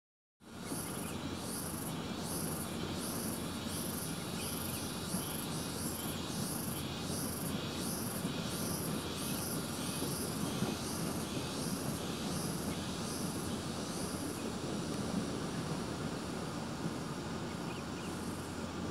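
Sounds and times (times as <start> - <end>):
insect chirping: 0.5 - 18.9.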